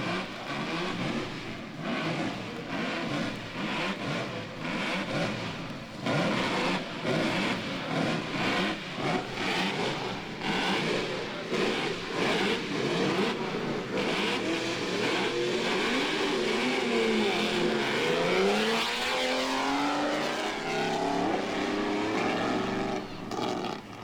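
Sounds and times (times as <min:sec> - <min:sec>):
racing car engines accelerating: 0:00.0 - 0:24.0.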